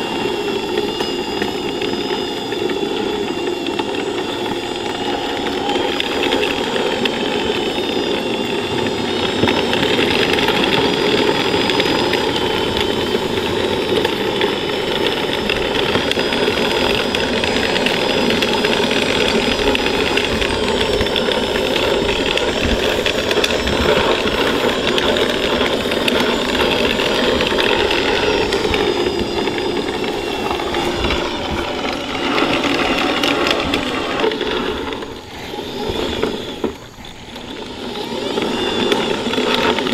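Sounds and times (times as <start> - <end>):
electric motors whining: 0.0 - 39.9.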